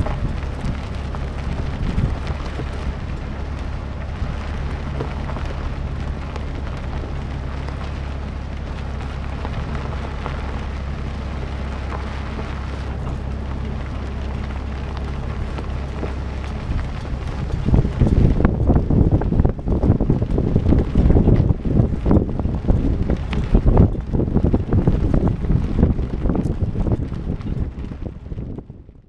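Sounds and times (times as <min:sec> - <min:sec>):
tractor diesel engine droning: 0:00.0 - 0:29.0
trailer rattling on dirt track: 0:00.0 - 0:29.0.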